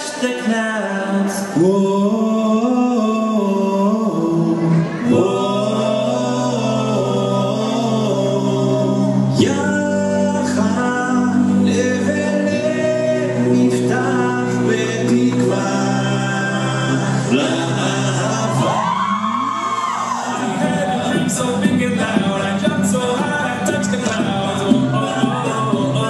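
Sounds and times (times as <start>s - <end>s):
people singing: 0.0s - 26.0s.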